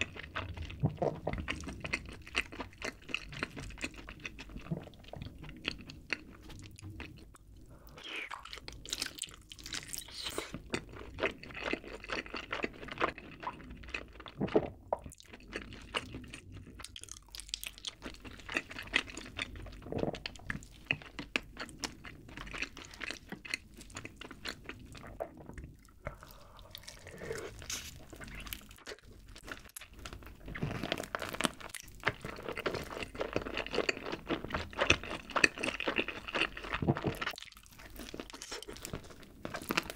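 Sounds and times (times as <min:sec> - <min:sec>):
chewing and biting food: 0:00.0 - 0:39.9.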